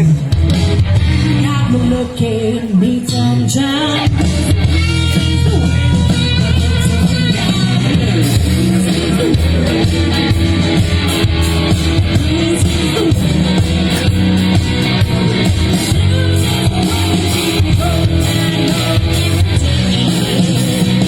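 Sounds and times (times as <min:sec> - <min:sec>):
blues-rock song over loudspeakers: 0:00.0 - 0:21.0
heavy bass line: 0:00.0 - 0:21.0.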